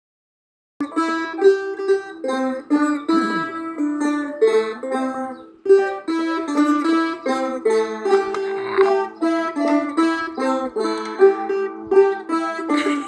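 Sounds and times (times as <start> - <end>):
plucked lute melody: 0.8 - 13.0.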